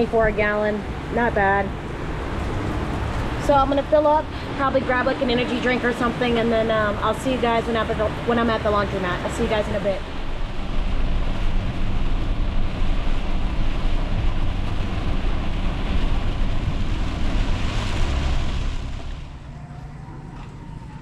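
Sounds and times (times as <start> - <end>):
rain and tyre spray rushing: 0.0 - 19.6
low road rumble: 0.0 - 21.0.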